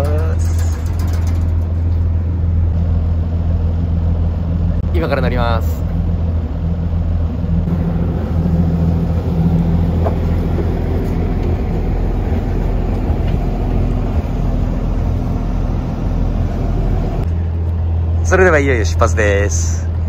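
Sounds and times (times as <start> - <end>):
boat engine idling: 0.0 - 20.0.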